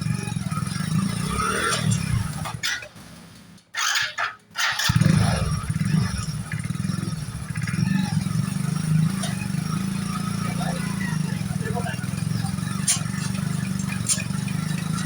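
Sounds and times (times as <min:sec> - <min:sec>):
motorcycle engine idling: 0:00.0 - 0:03.6, 0:04.6 - 0:15.0.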